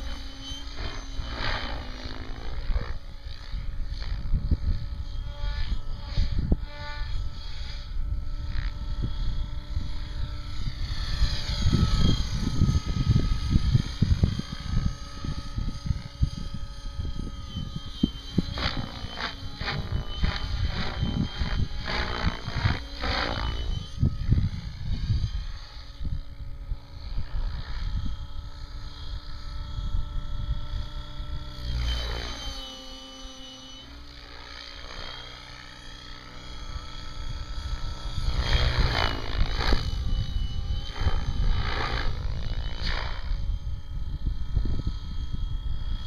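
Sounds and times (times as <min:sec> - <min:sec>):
model helicopter rotor whine: 0:00.0 - 0:46.0.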